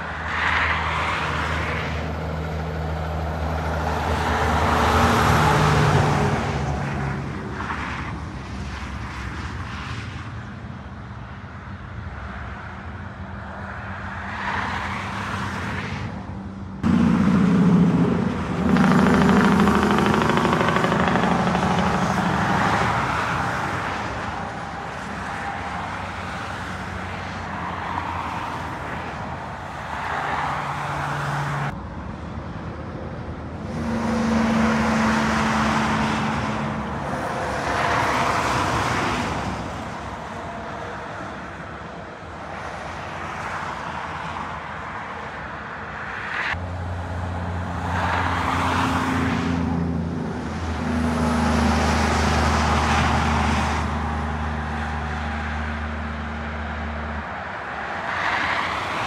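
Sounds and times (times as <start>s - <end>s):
heavy trucks passing: 0.0s - 59.0s.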